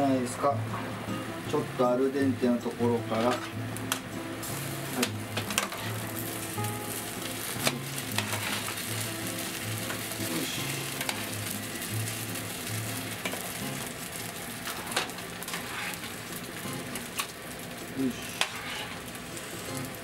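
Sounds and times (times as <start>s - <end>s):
sauce sizzling in frying pan: 0.0s - 20.0s.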